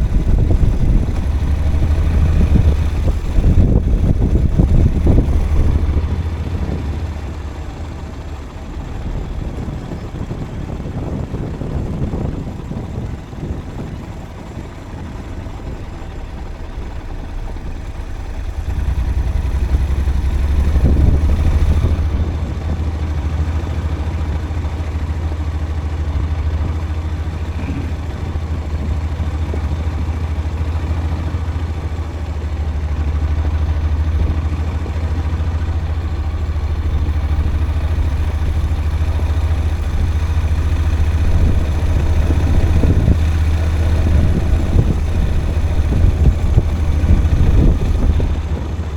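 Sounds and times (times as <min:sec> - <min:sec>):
vehicle engine and road rumble: 0:00.0 - 0:48.9.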